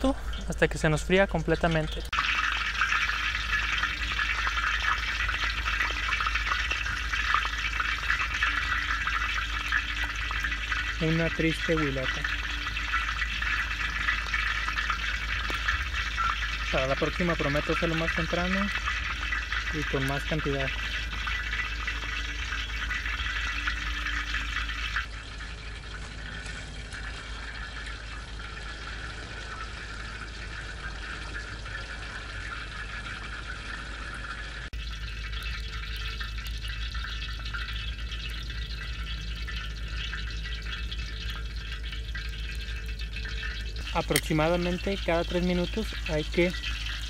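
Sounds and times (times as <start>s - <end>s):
food sizzling in oil: 0.0s - 47.0s.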